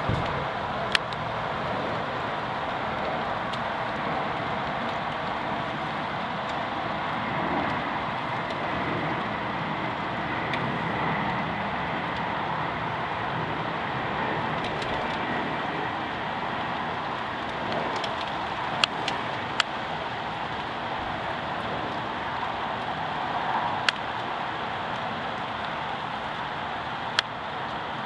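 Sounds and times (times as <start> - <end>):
jet airliner rumbling overhead: 0.0 - 28.0.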